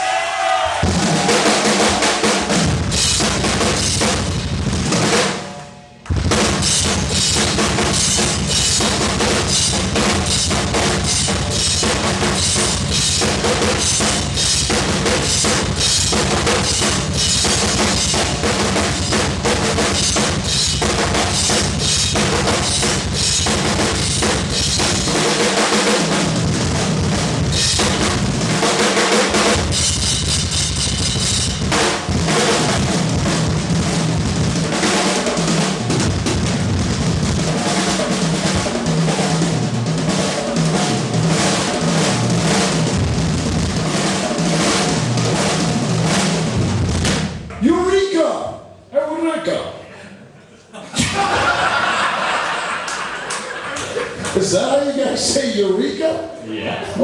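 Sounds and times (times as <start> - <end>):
drum kit played fast: 0.0 - 48.4.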